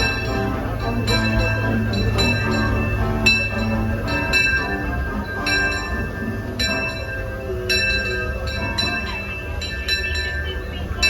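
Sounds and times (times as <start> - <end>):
locomotive bell ringing: 0.0 - 11.0.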